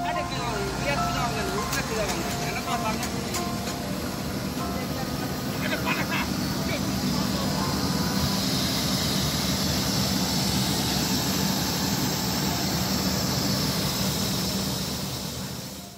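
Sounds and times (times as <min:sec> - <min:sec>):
air compressor running: 0:00.0 - 0:15.9.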